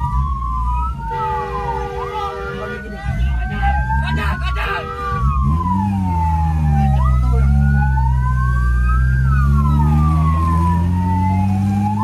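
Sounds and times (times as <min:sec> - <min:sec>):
vehicle engine hum: 0:00.0 - 0:12.0
vehicle sirens wailing: 0:00.0 - 0:12.0.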